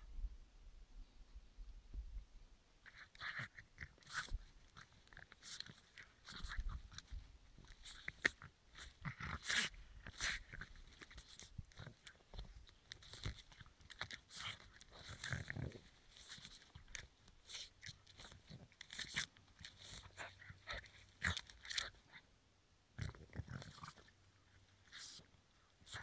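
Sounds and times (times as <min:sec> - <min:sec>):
dog crunching and tearing twigs: 0:02.9 - 0:22.2, 0:23.0 - 0:25.2.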